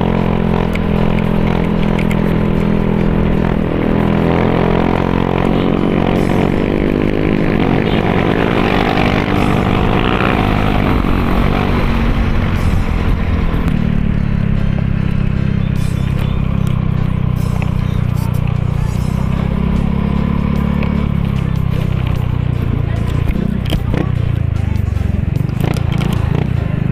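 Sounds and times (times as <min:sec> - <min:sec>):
scooter engine speeding up: 0:00.0 - 0:26.9.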